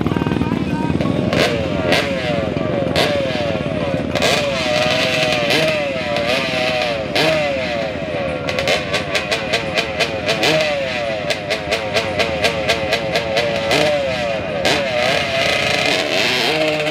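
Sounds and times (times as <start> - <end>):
engine revving hard: 1.1 - 16.9.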